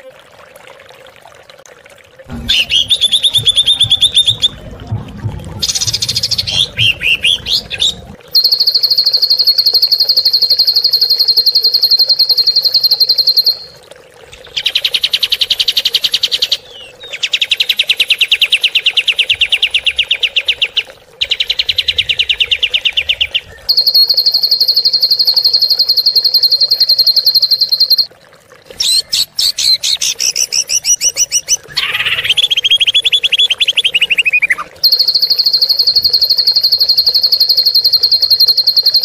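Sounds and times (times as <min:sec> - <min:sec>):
songbird chirps and rattling trills: 0:02.3 - 0:13.7, 0:14.3 - 0:28.1, 0:28.8 - 0:39.0.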